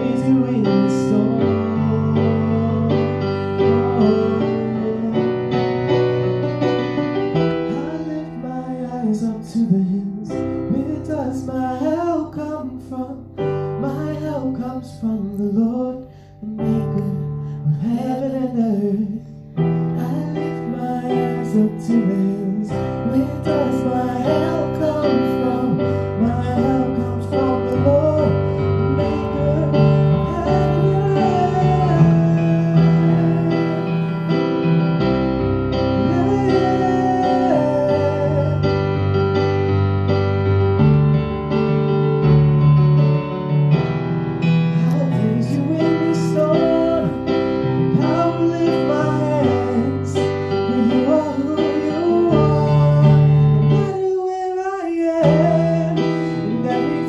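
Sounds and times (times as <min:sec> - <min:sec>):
person singing: 0:00.0 - 0:06.1, 0:07.4 - 0:39.6, 0:44.7 - 0:57.0
digital keyboard playing chords: 0:00.0 - 0:57.0.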